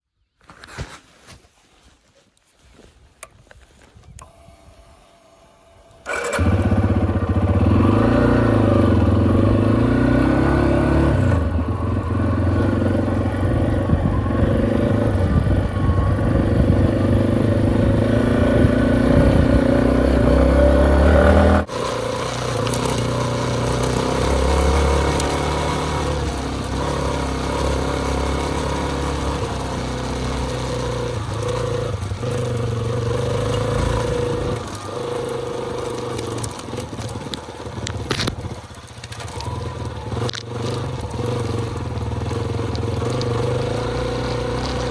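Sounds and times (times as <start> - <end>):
motorcycle engine running: 6.0 - 44.9.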